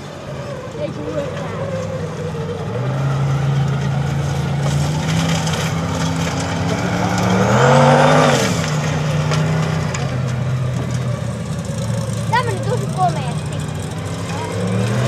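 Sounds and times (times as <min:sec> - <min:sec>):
turbocharged engine revving: 0:00.0 - 0:15.0.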